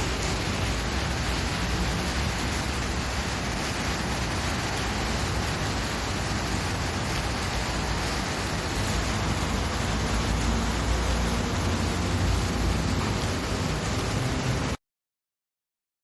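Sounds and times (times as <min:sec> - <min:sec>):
steady hiss: 0:00.0 - 0:14.8.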